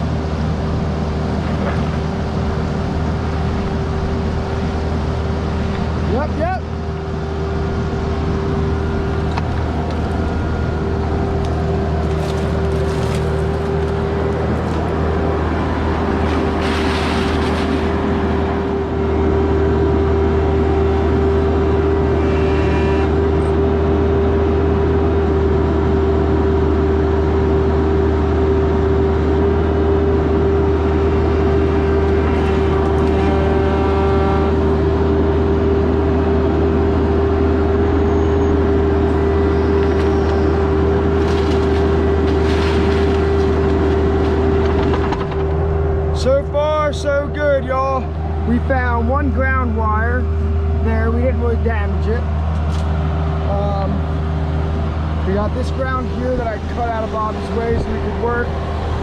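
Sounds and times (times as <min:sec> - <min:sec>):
mini excavator diesel engine: 0:00.0 - 0:59.0.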